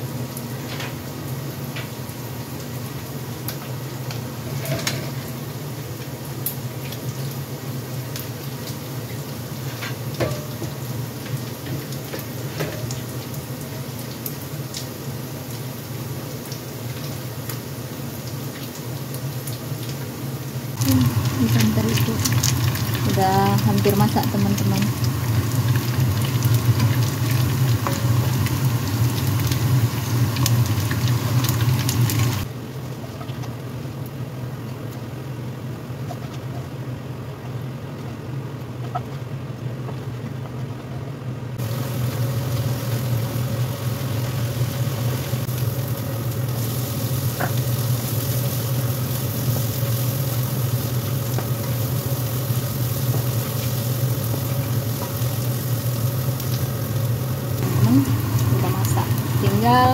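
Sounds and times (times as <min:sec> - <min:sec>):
food sizzling in oil: 0:00.0 - 0:34.3, 0:41.6 - 0:59.9.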